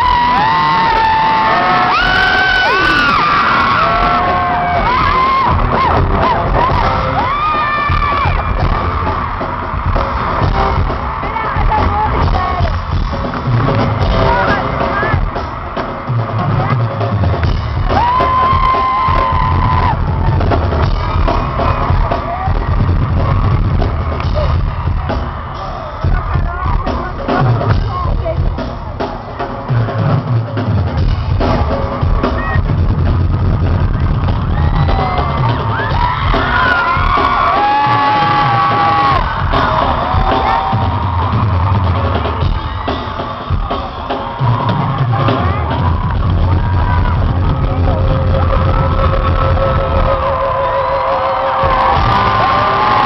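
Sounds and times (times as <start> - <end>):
crowd yelling: 0.0 - 30.3, 30.9 - 53.0
live pop music over loudspeakers: 0.0 - 53.0.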